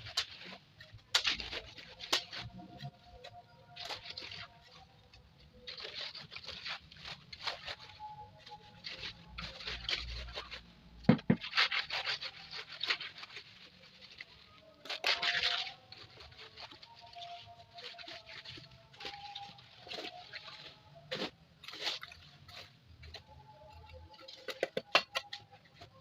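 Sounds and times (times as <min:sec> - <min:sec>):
scraping on a hard surface: 0:00.0 - 0:26.0.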